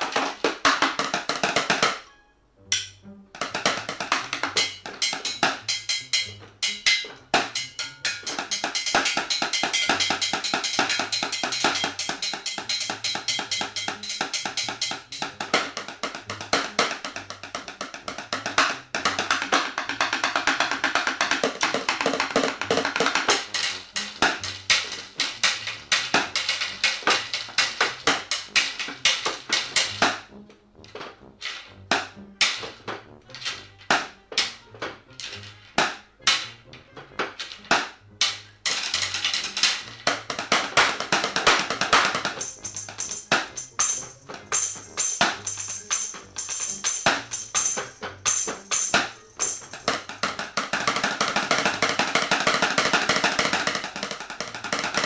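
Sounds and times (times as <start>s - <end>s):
drumsticks hitting household objects: 0.0s - 2.1s, 2.7s - 55.0s
backing music track: 0.0s - 55.0s.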